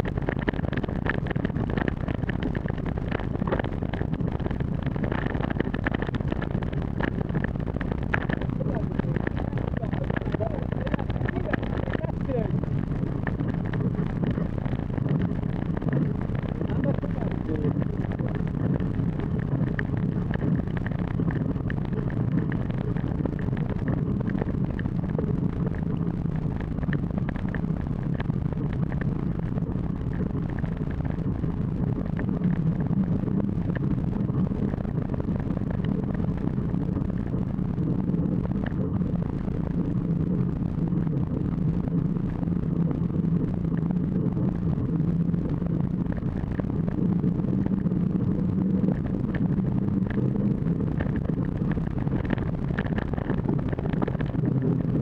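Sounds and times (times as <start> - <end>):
bike tyre rolling on asphalt: 0.0 - 55.0
wind rushing on microphone: 0.0 - 55.0.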